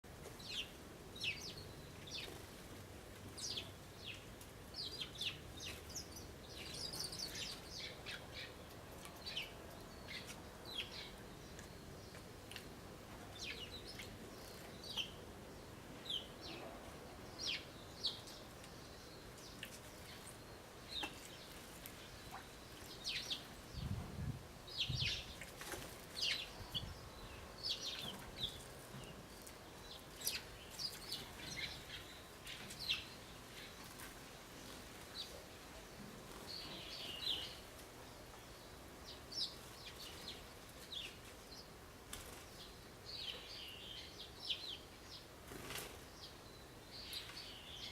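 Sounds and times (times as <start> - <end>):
sparrows chirping: 0.3 - 24.0, 24.6 - 47.9.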